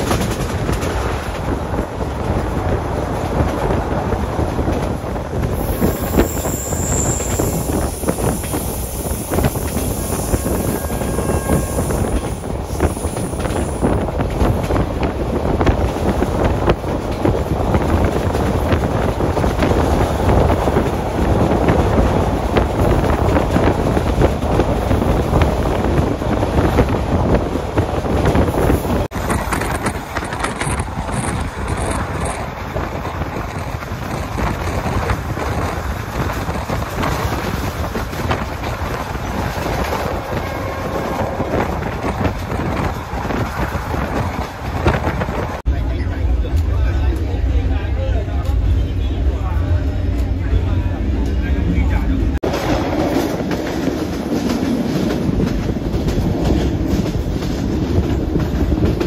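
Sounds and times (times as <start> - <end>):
train wheels rumbling on rails: 0.0 - 59.0
wind buffeting microphone: 0.0 - 59.0.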